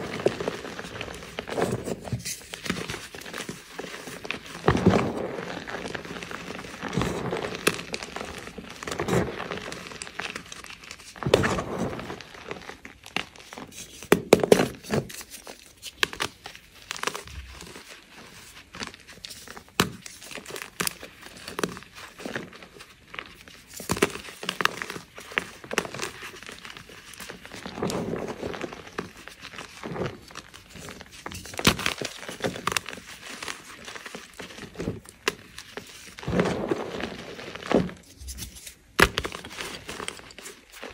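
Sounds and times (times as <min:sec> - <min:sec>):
hands crushing chalk blocks: 0:00.0 - 0:40.9.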